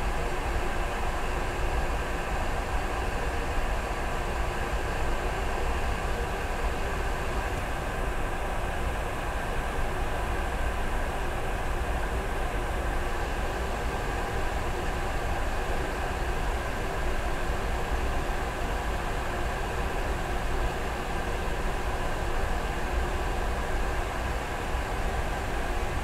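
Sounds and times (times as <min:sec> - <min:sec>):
airplane cabin hum and rumble: 0:00.0 - 0:26.0.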